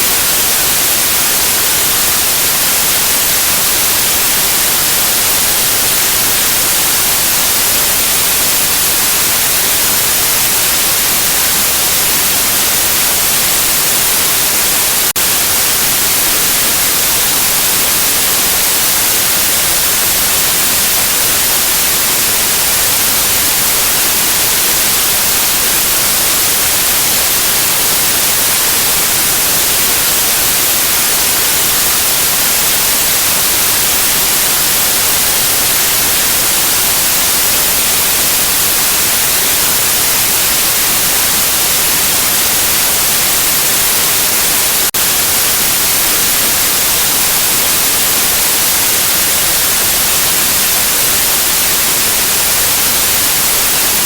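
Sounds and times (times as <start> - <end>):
electronic white noise: 0.0 - 54.0.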